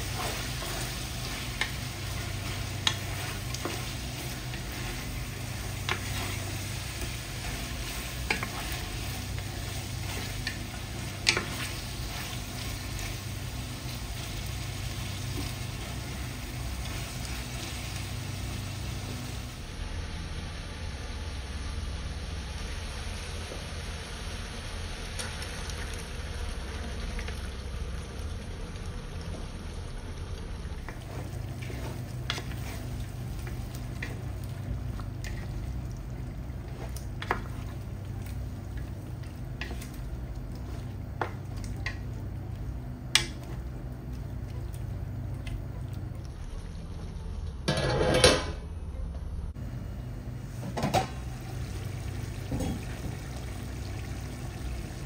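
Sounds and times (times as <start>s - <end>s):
food sizzling and bubbling: 0.0s - 48.5s, 49.5s - 55.0s.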